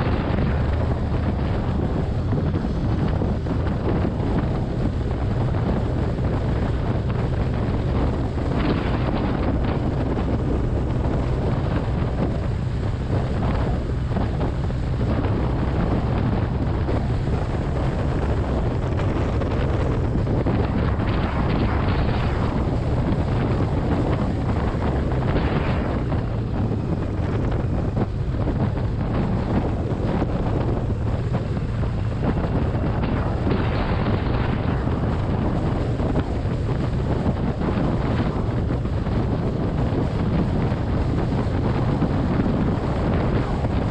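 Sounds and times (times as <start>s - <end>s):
motorcycle engine hum: 0.0s - 43.9s
wind rushing over microphone: 0.0s - 43.9s.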